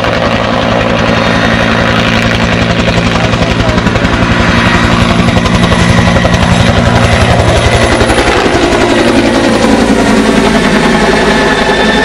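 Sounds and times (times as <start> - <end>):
helicopter high whine: 0.0 - 12.0
helicopter rotor chopping: 0.0 - 12.0.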